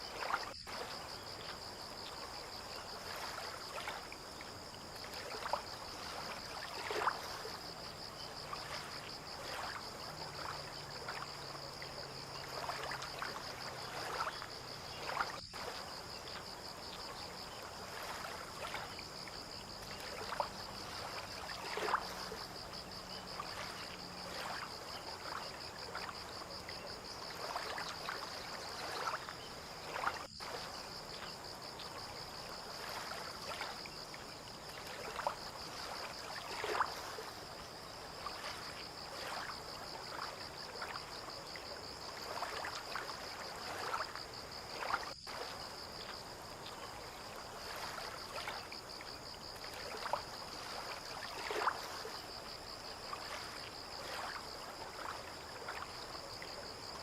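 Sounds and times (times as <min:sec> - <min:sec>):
high insect trill: 0:00.0 - 0:57.0
small waves lapping: 0:00.0 - 0:57.0.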